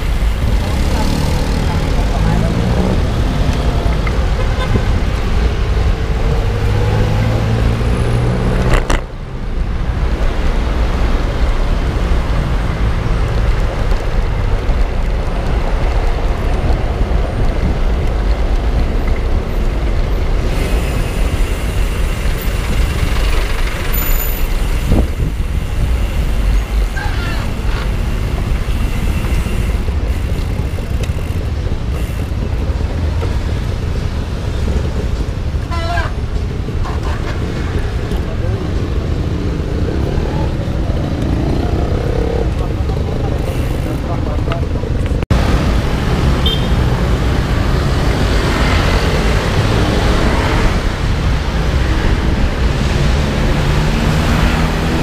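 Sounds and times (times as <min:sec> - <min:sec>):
passing vehicles: 0:00.0 - 0:55.0.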